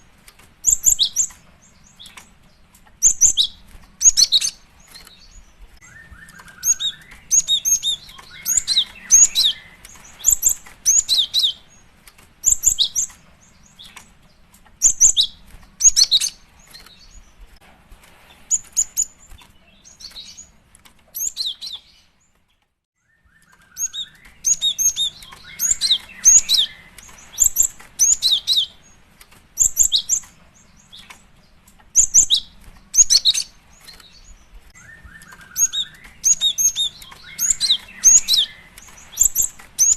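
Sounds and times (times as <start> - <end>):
bird high-pitched chirps: 0.6 - 17.4, 18.5 - 20.6, 21.2 - 22.2, 23.0 - 29.0, 29.6 - 39.9.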